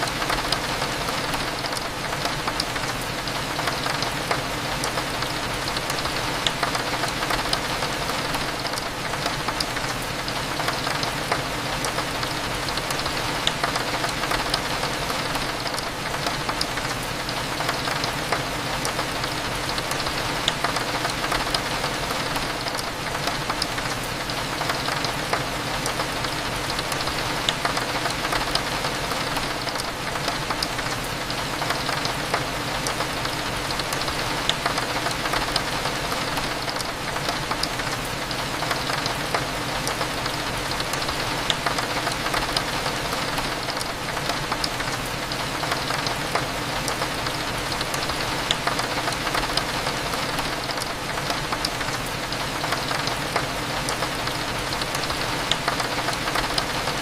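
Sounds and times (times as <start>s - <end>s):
rain drops clicking on window glass: 0.0s - 57.0s
steady rain: 0.0s - 57.0s.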